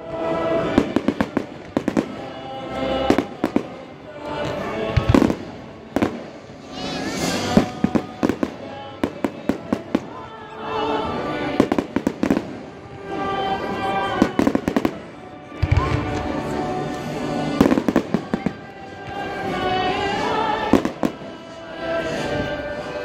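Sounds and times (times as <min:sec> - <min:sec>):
orchestral music: 0:00.0 - 0:23.0
fireworks cracking: 0:00.6 - 0:10.2, 0:11.4 - 0:13.3, 0:14.0 - 0:21.5.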